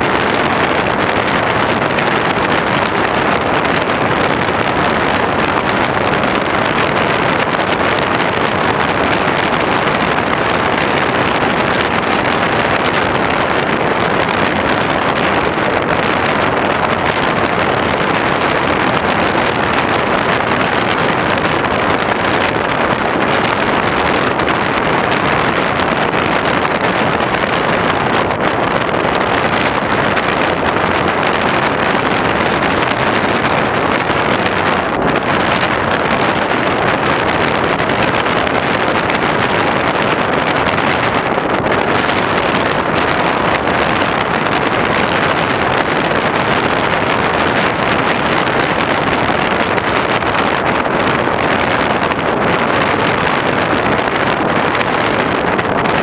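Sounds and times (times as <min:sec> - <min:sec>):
wind and propeller noise: 0:00.0 - 0:56.0.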